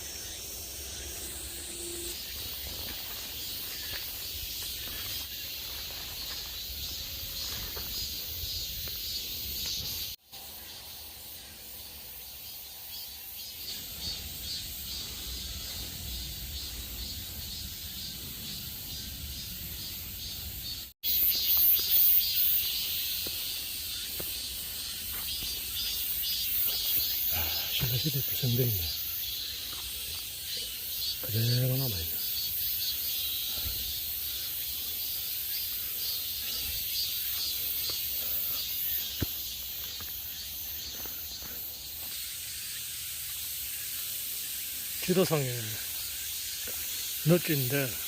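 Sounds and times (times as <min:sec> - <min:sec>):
insects chirping in a chorus: 0:00.0 - 0:48.0.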